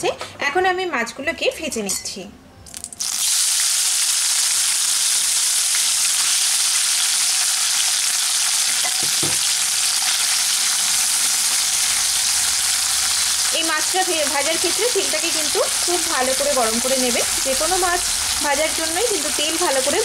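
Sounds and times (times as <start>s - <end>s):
fish sizzling in hot oil: 2.8s - 20.0s.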